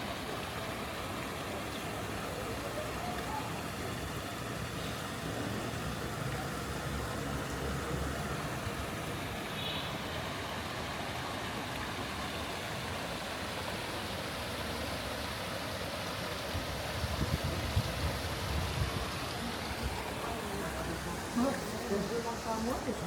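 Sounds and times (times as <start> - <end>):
car engines and road noise: 0.0 - 12.9, 16.5 - 23.0.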